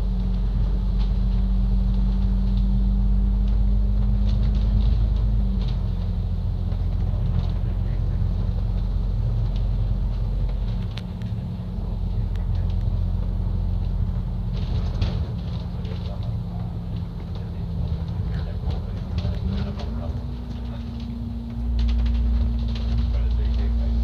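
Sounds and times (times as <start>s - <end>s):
bus engine droning: 0.0s - 24.0s
ticks and rattles: 3.4s - 24.0s.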